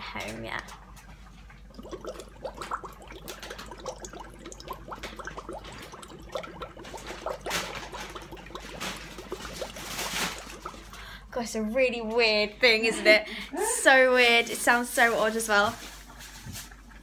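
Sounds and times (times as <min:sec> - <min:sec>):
bubbling through straw in water: 0:00.2 - 0:11.3, 0:14.2 - 0:17.0.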